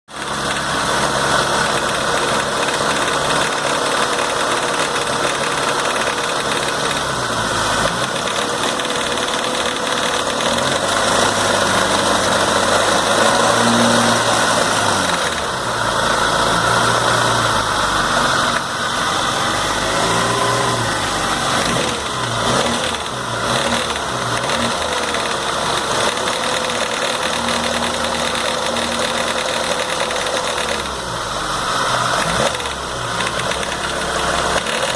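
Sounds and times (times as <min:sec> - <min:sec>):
car engine rattling: 0:00.2 - 0:34.9.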